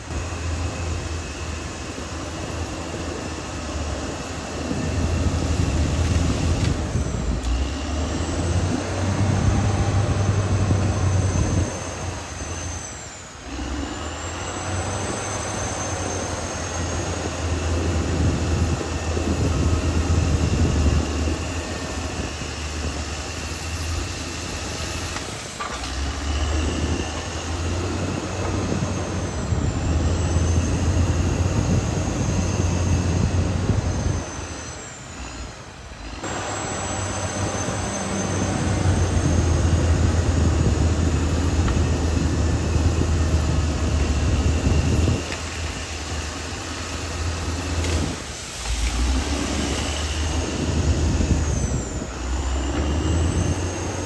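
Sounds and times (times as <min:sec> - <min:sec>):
bulldozer diesel drone: 0:00.0 - 0:54.0
high squealing whine: 0:00.0 - 0:54.0.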